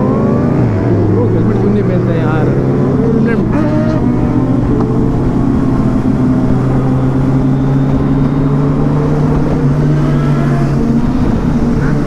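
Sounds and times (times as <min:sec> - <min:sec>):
constant noisy rush: 0:00.0 - 0:12.0
motorcycle engine running: 0:00.0 - 0:12.0.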